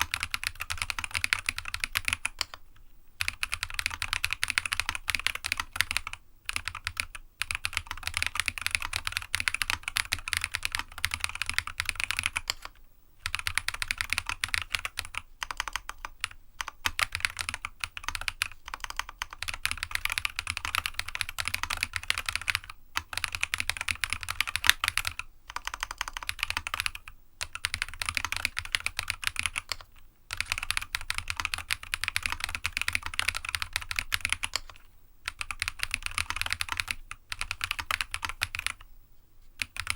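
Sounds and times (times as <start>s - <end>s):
fast typing on mechanical keyboard: 0.0s - 2.6s, 3.2s - 38.8s, 39.6s - 39.9s.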